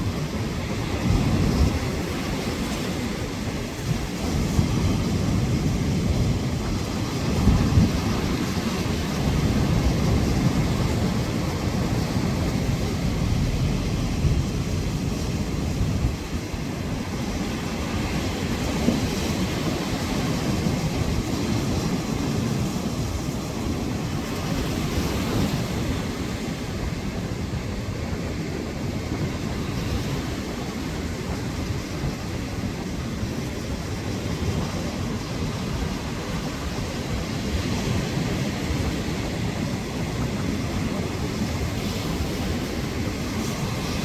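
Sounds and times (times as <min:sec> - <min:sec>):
surf rumbling: 0:00.0 - 0:44.0
wind buffeting microphone: 0:00.0 - 0:44.0.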